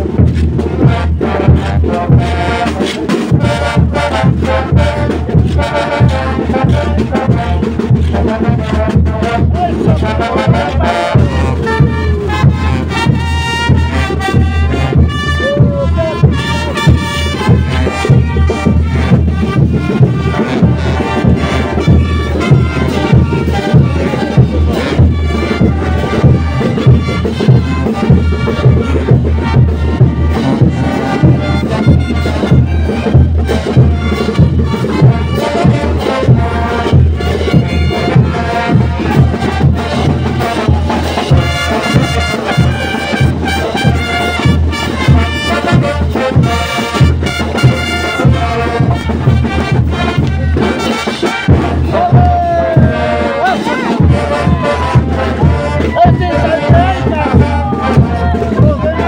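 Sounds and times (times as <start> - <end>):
brass band with drum beat: 0.0 - 59.0.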